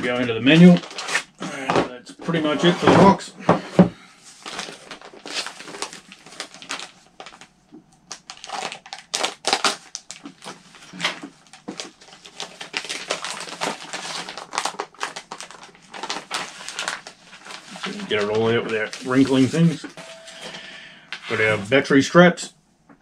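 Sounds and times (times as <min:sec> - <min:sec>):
paper and packaging crinkling: 0:00.0 - 0:03.2, 0:04.2 - 0:21.7.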